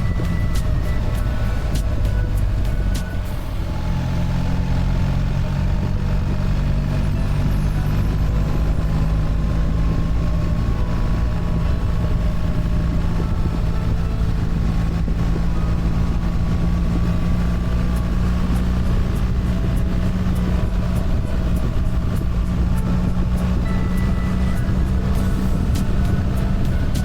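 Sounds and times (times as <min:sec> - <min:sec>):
motorcycle engine cruising: 0:00.0 - 0:27.0
wind and road noise: 0:00.0 - 0:27.0.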